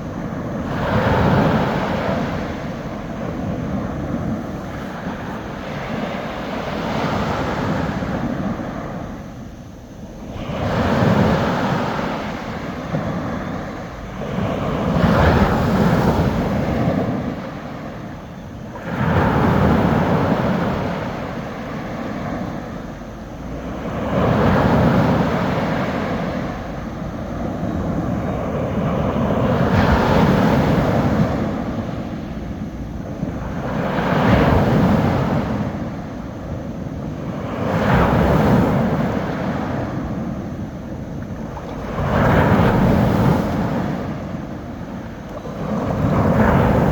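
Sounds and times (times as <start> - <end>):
sea waves breaking on shore: 0.0 - 46.9.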